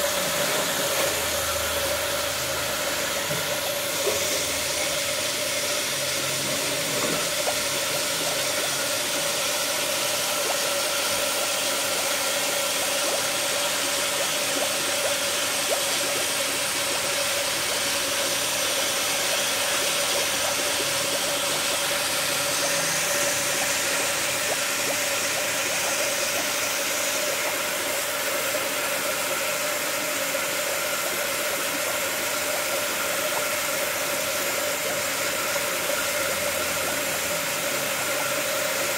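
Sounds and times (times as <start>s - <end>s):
steady pump hum: 0.0s - 38.9s.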